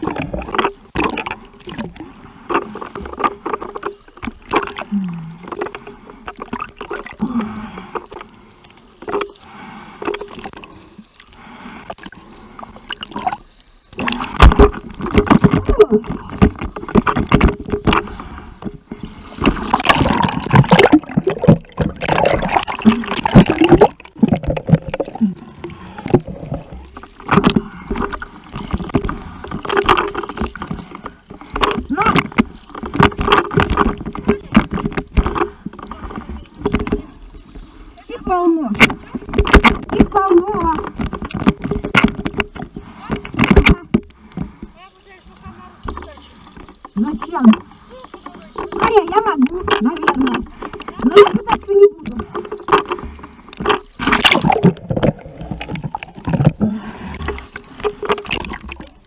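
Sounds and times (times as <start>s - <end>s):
sea water splashing: 0.0s - 59.0s.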